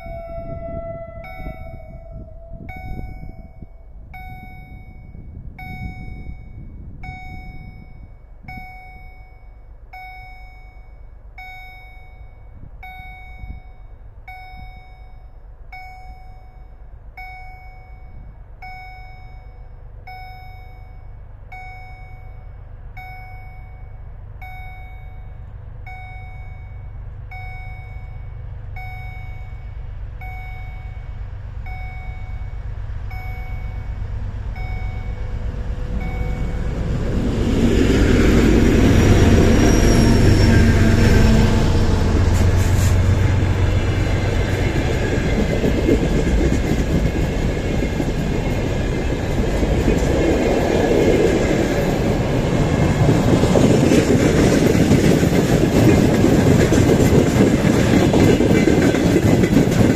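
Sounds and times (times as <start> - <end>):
diesel locomotives rumbling: 0.0 - 59.9
level-crossing warning bell dinging: 0.0 - 59.9.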